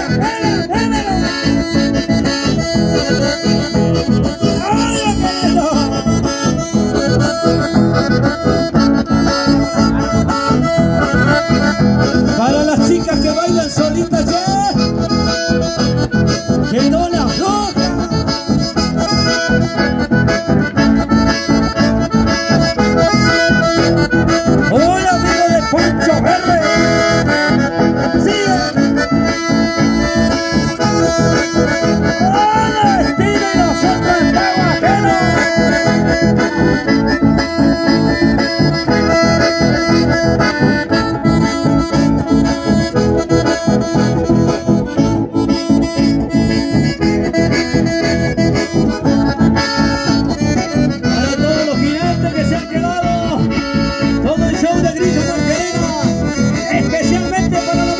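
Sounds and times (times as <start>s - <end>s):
accordion: 0.0s - 57.9s
guitar accompaniment: 0.0s - 57.9s.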